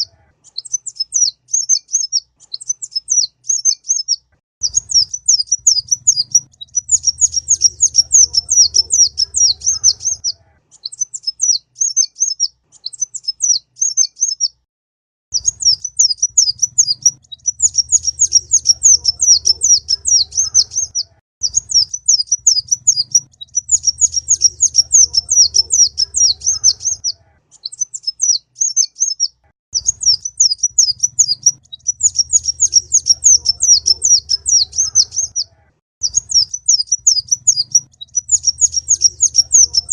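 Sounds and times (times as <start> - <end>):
sunbird chattering song: 0.0 - 14.6, 15.3 - 39.9.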